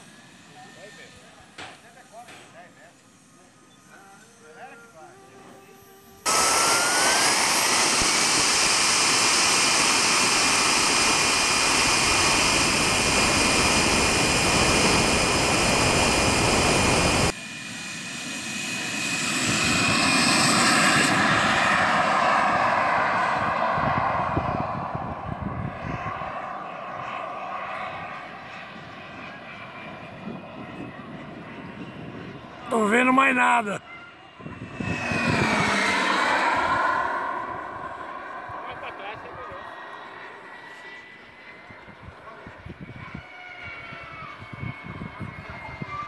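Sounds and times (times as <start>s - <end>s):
jet turbine whine: 0.0s - 46.0s
model jet taking off: 0.0s - 46.0s.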